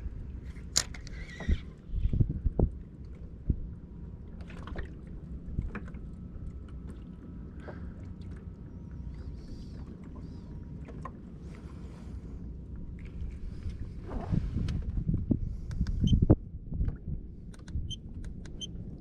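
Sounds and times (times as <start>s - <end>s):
water washing around boat: 0.0s - 15.7s
wind: 0.0s - 19.0s.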